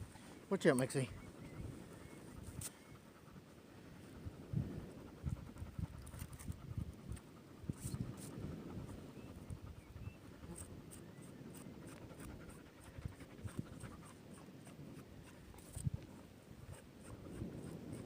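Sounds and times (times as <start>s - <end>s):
dog panting: 0.5s - 15.6s.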